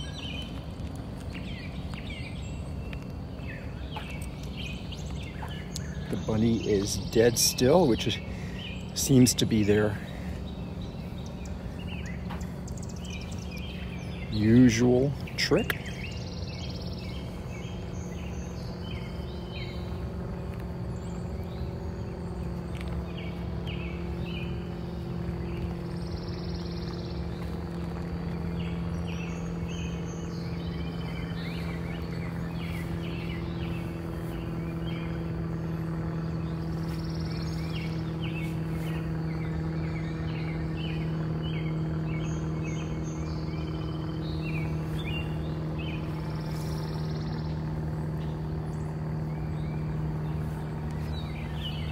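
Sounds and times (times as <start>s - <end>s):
small birds chirping: 0.0s - 51.9s
steady low hum: 0.0s - 51.9s.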